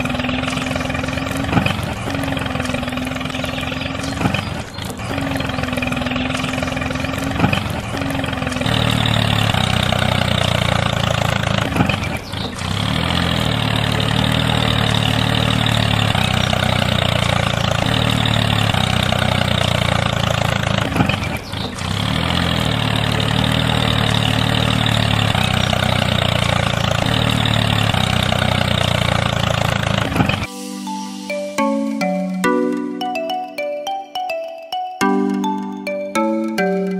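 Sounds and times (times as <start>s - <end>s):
tractor engine droning: 0.0s - 34.4s, 35.0s - 36.9s.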